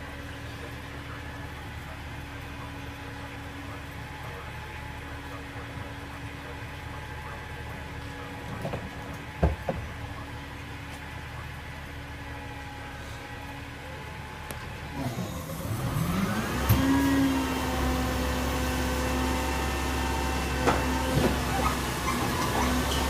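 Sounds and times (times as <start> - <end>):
garbage truck engine idling: 0.0 - 23.0.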